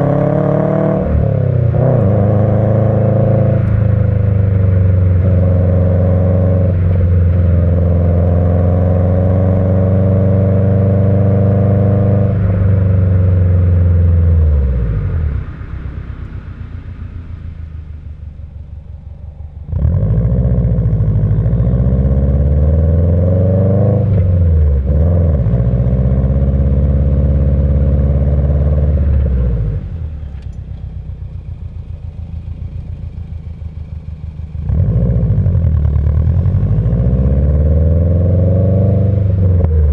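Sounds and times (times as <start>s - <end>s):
car engine revving hard: 0.0s - 17.4s, 19.7s - 29.8s, 34.7s - 39.9s.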